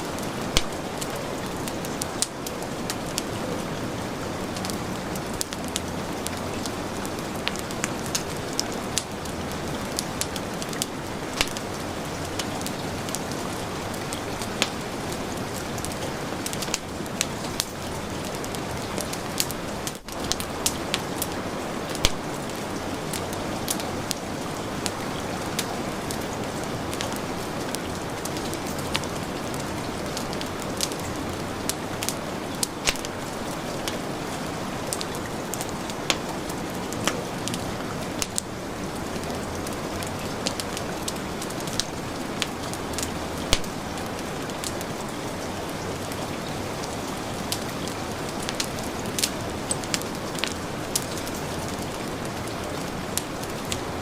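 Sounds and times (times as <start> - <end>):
heavy rain hissing: 0.0 - 54.0
wood fire crackling: 0.0 - 54.0.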